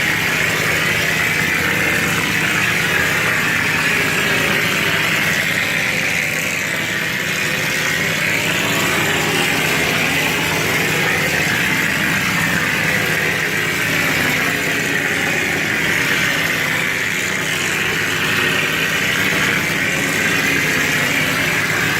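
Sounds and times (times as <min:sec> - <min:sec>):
plaster spraying machine hissing: 0:00.0 - 0:21.9.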